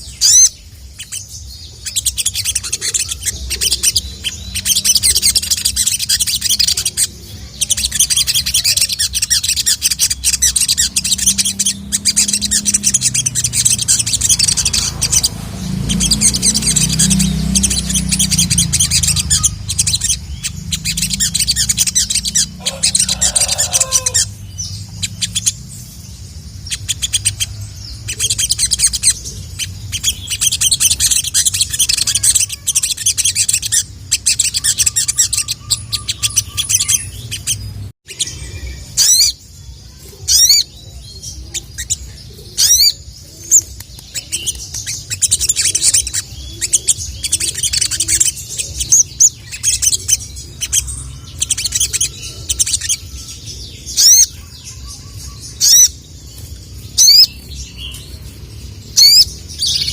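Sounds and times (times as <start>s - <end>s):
bird chirps and chatter: 0.0s - 59.9s.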